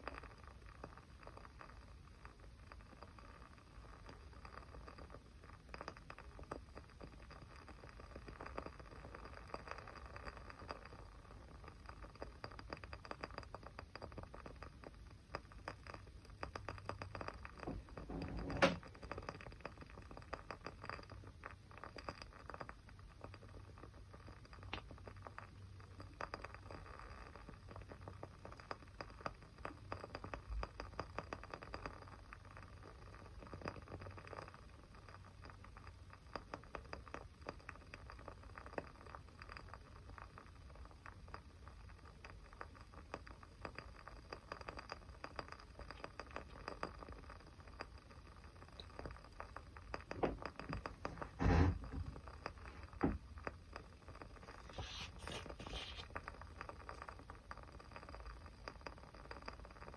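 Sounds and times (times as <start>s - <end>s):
small fire crackling: 0.0s - 59.9s.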